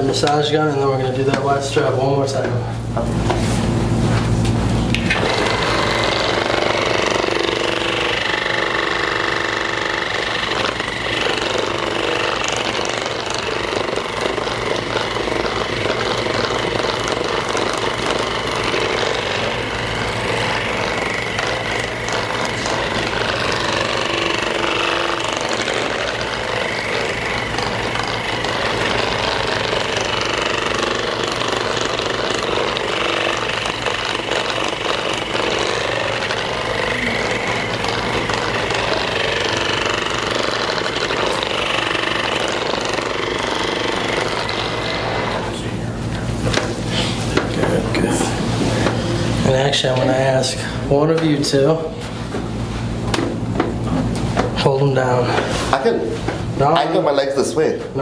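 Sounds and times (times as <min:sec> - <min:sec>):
massage gun motor hammering: 0:00.0 - 0:03.4, 0:04.9 - 0:55.1.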